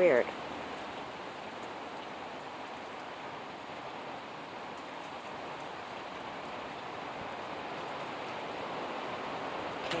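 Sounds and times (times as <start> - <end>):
rain and wind hissing: 0.0 - 10.0.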